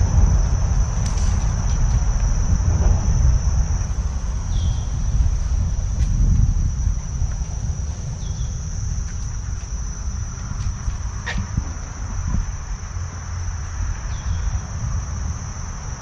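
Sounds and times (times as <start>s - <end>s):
cricket or cicada drone: 0.0s - 16.0s
loud low rumble: 0.0s - 16.0s.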